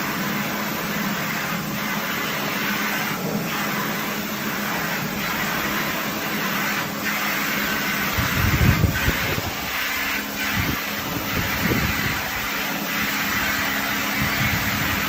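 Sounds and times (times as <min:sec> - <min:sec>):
washing machine running: 0:00.0 - 0:15.0.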